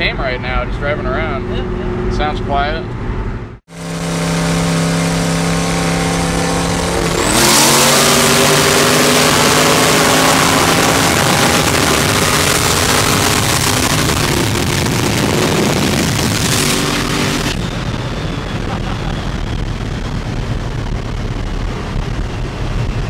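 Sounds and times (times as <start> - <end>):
race car engines roaring: 0.0 - 23.0.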